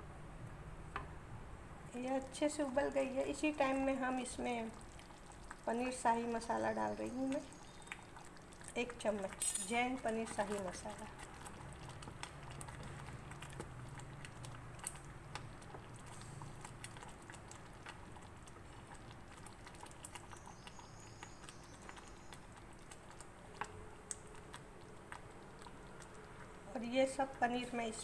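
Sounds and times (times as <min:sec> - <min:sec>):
spatula stirring gravy in a pan: 0:02.0 - 0:27.9.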